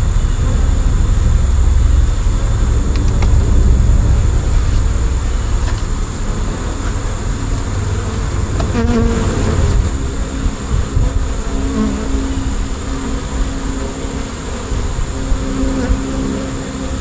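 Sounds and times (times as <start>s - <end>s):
bee swarm buzzing: 0.0s - 17.0s
low rumble: 0.0s - 17.0s.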